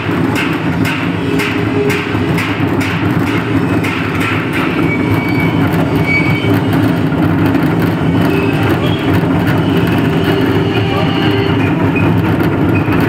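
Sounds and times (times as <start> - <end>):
machine rumbling: 0.0 - 13.0.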